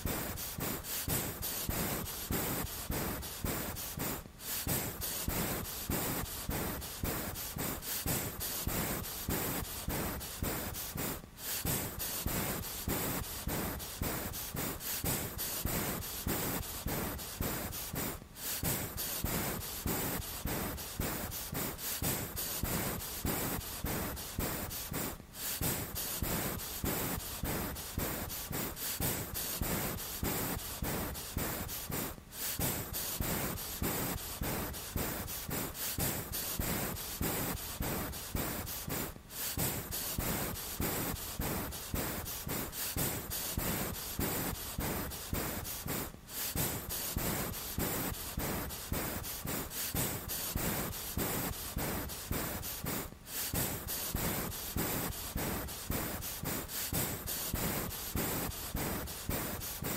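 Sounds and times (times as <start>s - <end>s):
cat breathing in fast huffs: 0.0s - 59.9s.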